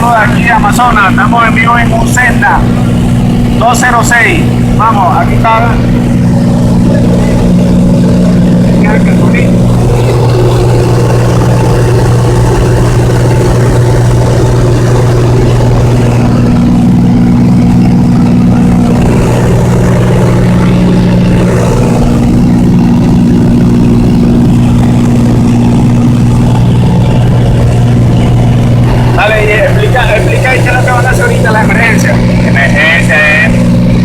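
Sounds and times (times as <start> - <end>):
plane engine and propeller drone: 0.0 - 34.0.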